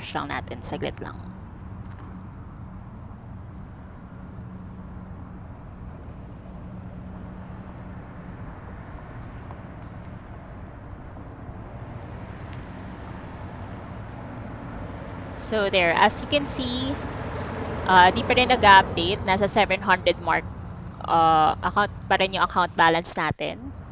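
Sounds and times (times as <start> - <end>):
car cabin engine hum: 0.0 - 23.9
road rumble: 0.0 - 23.9.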